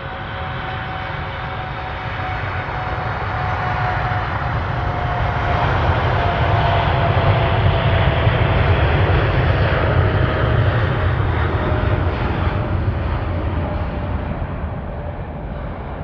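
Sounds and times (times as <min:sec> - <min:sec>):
airliner engines passing: 0:00.0 - 0:16.0.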